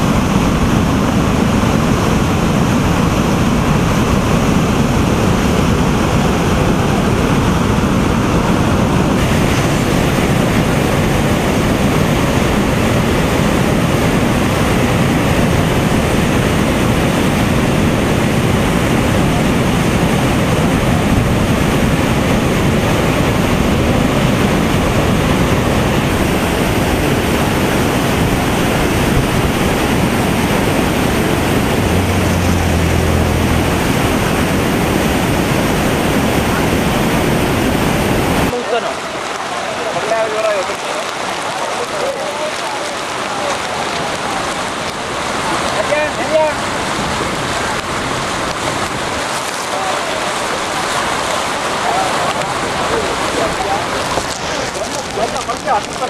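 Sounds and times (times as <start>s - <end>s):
water rushing over dam spillway: 0.0s - 56.0s.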